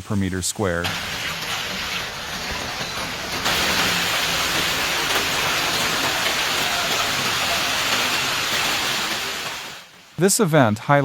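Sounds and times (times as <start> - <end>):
heavy rain pouring: 0.8 - 10.2.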